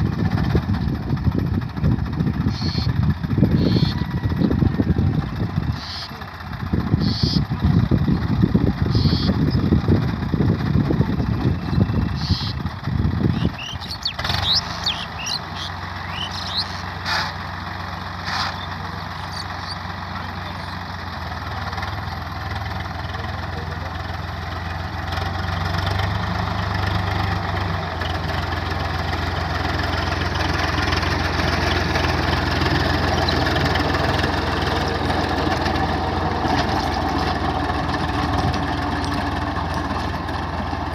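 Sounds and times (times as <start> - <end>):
heavy uneven low rumble: 0.0 - 40.9
tractor diesel engine running: 0.0 - 40.9.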